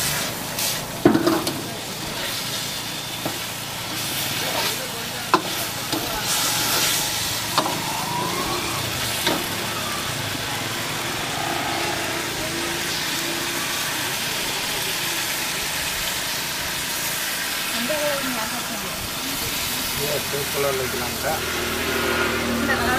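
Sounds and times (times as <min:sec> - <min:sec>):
food sizzling in a wok: 0:00.0 - 0:22.9.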